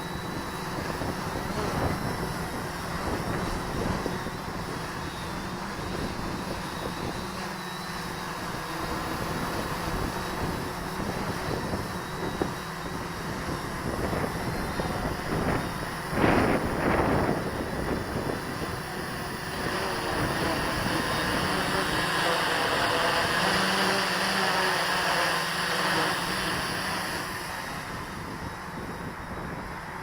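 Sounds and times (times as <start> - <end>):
drone motors humming and whining: 0.0 - 30.0.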